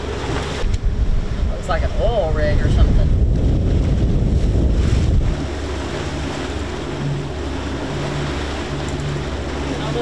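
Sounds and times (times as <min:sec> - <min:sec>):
low hum: 0:00.0 - 0:10.0
waves washing: 0:00.0 - 0:10.0
wind buffeting microphone: 0:00.0 - 0:10.0.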